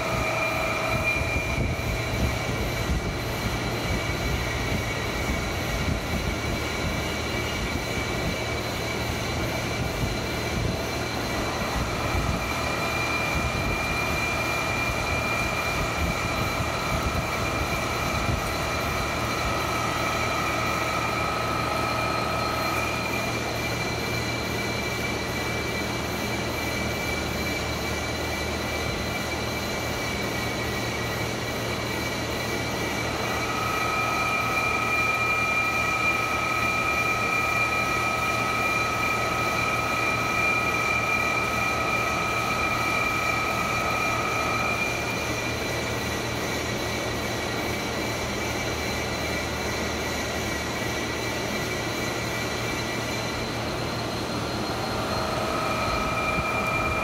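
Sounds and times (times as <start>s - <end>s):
boring mill humming and whining: 0.0s - 57.0s.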